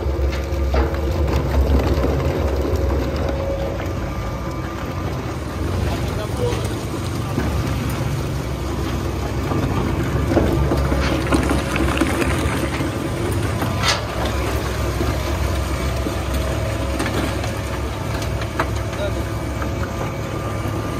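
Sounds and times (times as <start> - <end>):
plastic shredder humming: 0.0 - 20.9.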